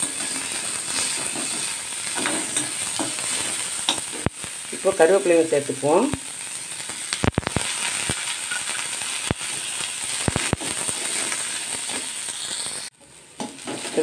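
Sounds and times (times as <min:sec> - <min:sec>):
leaves sizzling in hot oil: 0:00.0 - 0:14.0
oil popping and crackling: 0:00.0 - 0:14.0.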